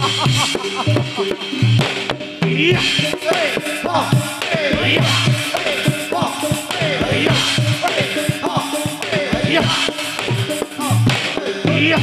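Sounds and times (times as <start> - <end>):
percussive drum music: 0.0 - 12.0.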